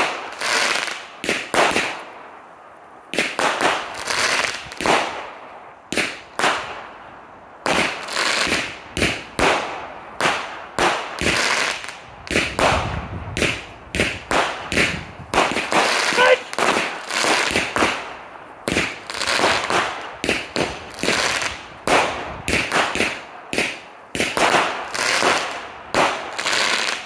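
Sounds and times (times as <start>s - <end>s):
firework bangs: 0.0s - 2.1s, 3.1s - 6.9s, 7.6s - 27.0s.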